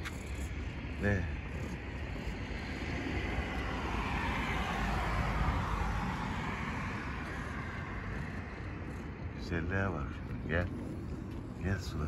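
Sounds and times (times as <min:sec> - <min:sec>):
car passing: 0:00.0 - 0:12.0
low traffic rumble: 0:00.0 - 0:12.0.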